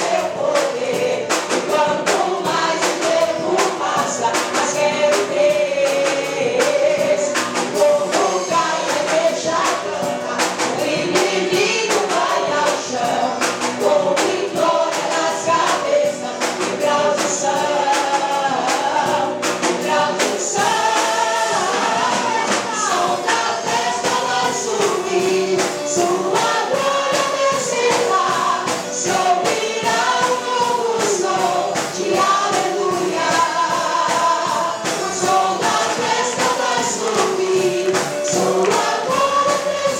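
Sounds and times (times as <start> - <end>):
band accompaniment: 0.0 - 39.9
choir singing gospel song: 0.0 - 39.9
steady percussive beat: 0.0 - 39.9.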